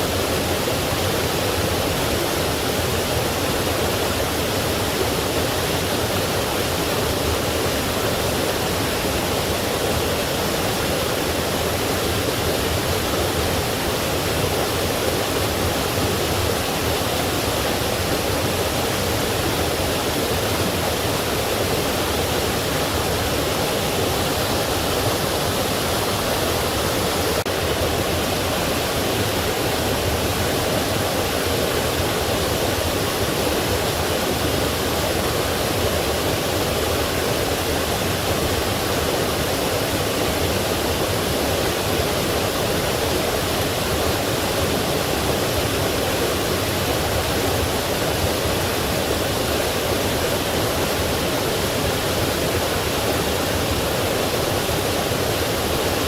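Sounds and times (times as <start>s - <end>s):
stream and waterfall flowing: 0.0s - 56.0s.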